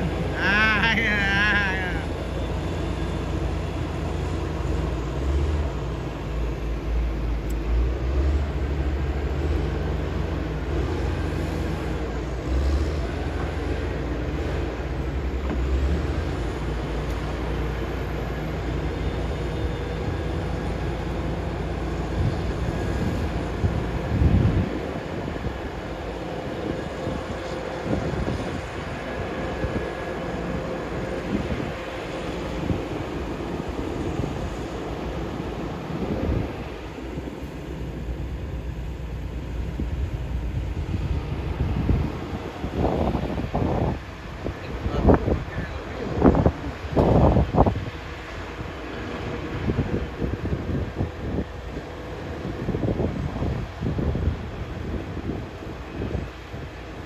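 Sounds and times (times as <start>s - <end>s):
diesel engine rumbling: 0.0s - 57.0s.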